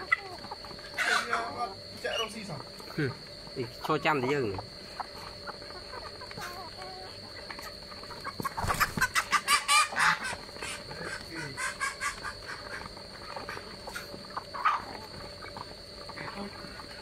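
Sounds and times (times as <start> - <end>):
birds pecking at rice: 0.0 - 17.0
poultry calling: 0.0 - 17.0
steady high-pitched whine: 0.0 - 17.0.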